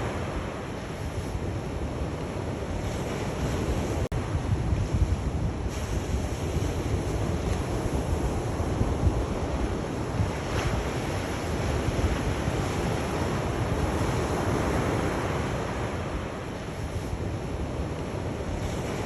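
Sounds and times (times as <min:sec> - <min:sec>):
sea waves breaking on shore: 0:00.0 - 0:19.0
wind buffeting microphone: 0:00.0 - 0:19.0.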